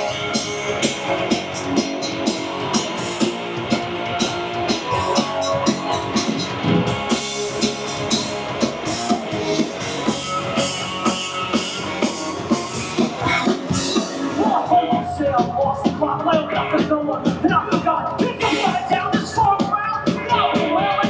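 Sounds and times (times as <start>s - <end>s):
drum kit beat: 0.0s - 21.0s
electric guitars: 0.0s - 21.0s.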